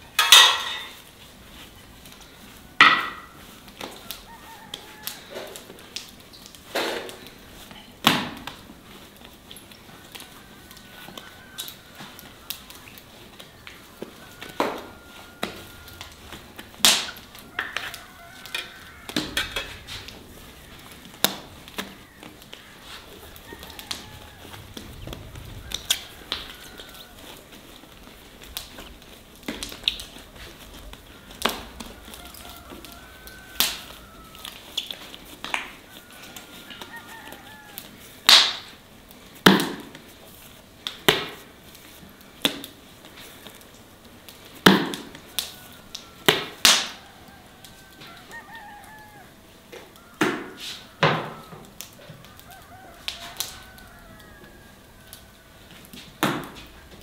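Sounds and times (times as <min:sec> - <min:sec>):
hens clucking: 0:00.2 - 0:40.5, 0:41.1 - 0:57.0.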